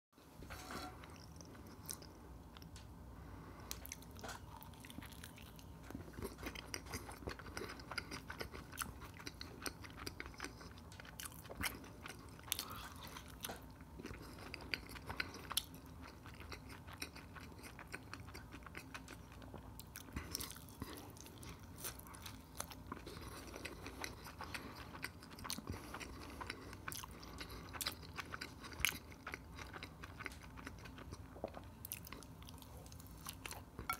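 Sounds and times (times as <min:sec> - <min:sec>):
chewing and biting wrap: 0:03.7 - 0:33.7.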